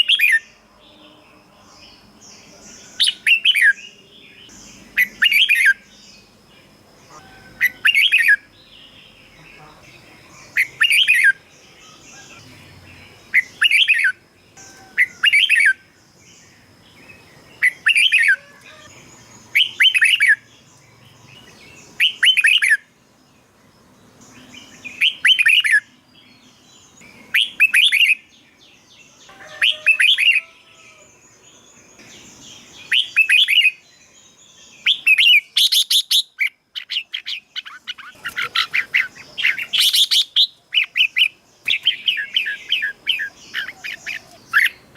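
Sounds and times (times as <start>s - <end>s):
bulbul singing: 0.0s - 44.9s.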